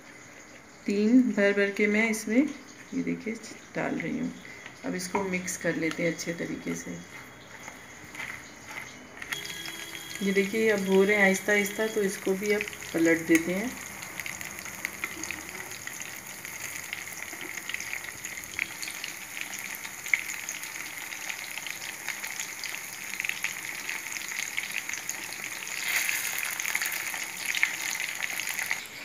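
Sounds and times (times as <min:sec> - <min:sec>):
food deep-frying in oil: 0:00.0 - 0:29.0
tongs turning food in oil: 0:05.4 - 0:29.0.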